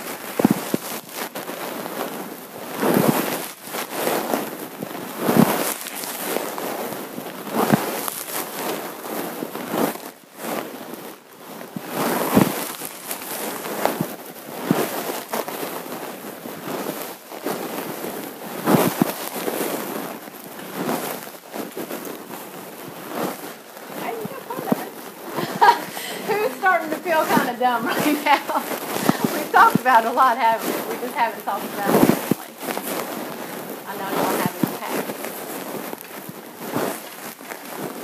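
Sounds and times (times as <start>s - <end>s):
paper rustling and crackling: 0.0s - 38.0s.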